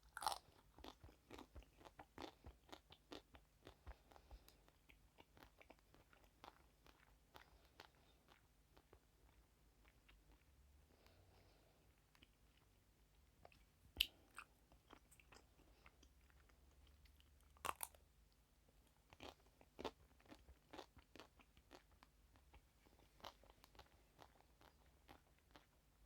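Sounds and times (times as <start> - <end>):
food crunching: 0.0 - 10.4, 13.4 - 18.0, 19.1 - 25.8
chewing crunches: 0.0 - 10.5, 13.4 - 18.0, 19.1 - 25.8.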